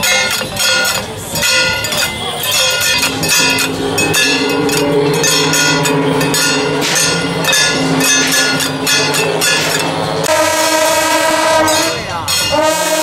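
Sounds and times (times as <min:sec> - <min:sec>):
held horn-like notes: 0:01.4 - 0:13.0.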